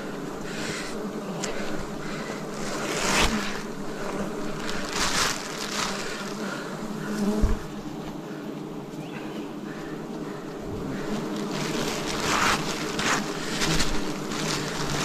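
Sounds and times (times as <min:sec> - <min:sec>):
bees buzzing: 0:00.0 - 0:15.0
rustling: 0:00.3 - 0:08.1, 0:10.1 - 0:15.0.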